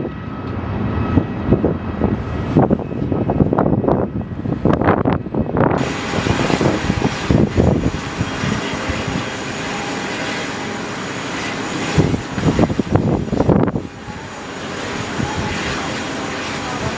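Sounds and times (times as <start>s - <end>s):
airliner engines running: 0.0s - 16.9s
gusty low surges: 0.0s - 16.9s
high whine: 0.0s - 16.9s.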